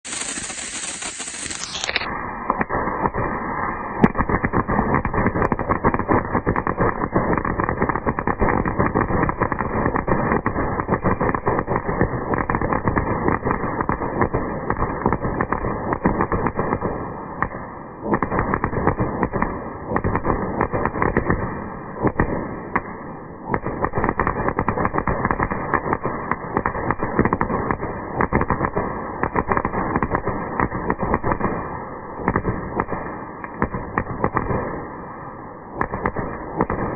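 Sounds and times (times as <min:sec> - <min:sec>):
firework crackling: 0:00.0 - 0:36.9.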